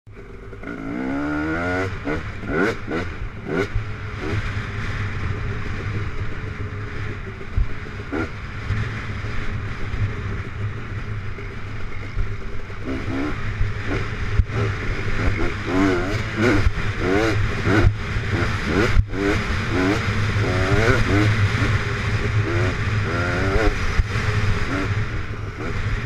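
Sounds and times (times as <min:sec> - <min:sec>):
dirt bike engine revving: 0:00.2 - 0:26.0.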